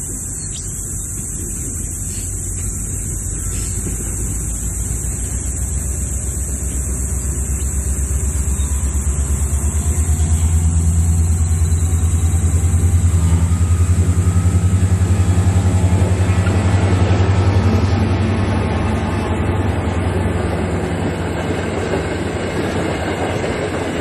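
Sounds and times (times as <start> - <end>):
diesel locomotive engine throbbing: 0.0 - 24.0
train carriages rolling past: 0.0 - 24.0.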